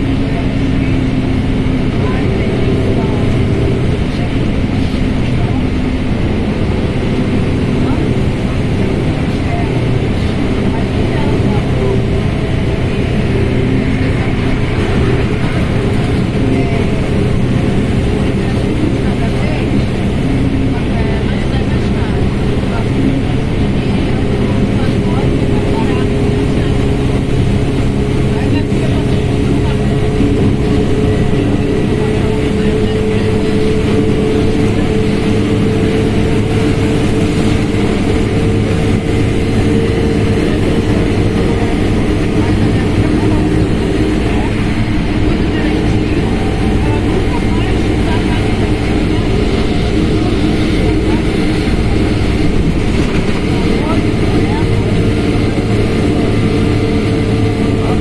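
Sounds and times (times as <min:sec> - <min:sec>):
bus diesel engine running: 0:00.0 - 0:58.0
bus driveline noise: 0:00.0 - 0:58.0
steady whine: 0:00.0 - 0:58.0.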